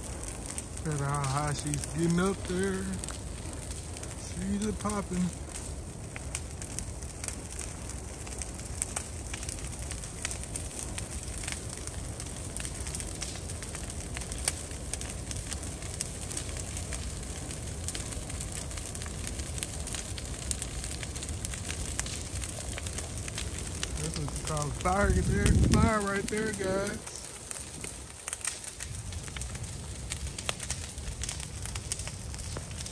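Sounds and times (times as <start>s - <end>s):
fire crackling and popping: 0.0s - 32.9s.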